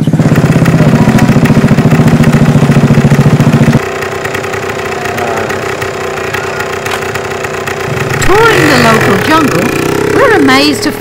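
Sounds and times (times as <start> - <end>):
small motorbike engine running: 0.0 - 11.0.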